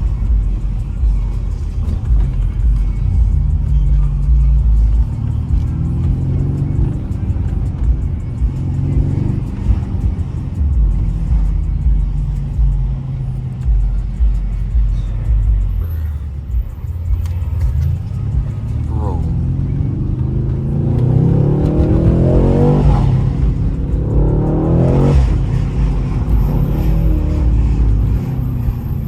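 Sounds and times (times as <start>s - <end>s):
bass-heavy music: 0.0s - 29.0s
car engine running: 0.0s - 29.0s.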